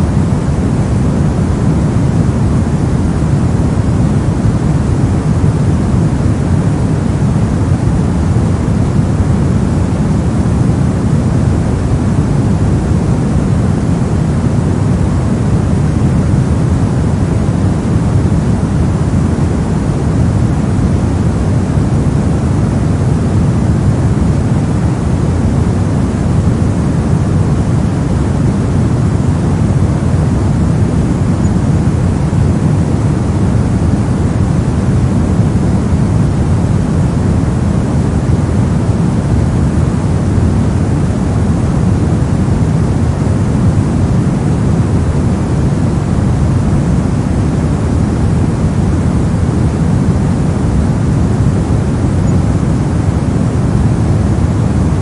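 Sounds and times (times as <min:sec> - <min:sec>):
deep synthetic noise hiss: 0:00.0 - 0:55.0.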